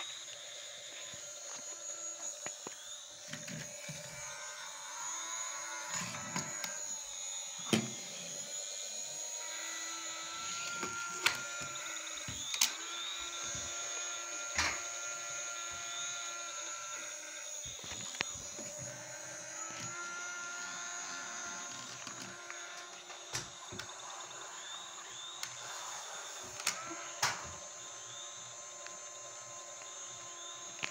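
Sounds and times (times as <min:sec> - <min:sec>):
small electric motor whirring: 0:00.0 - 0:30.9.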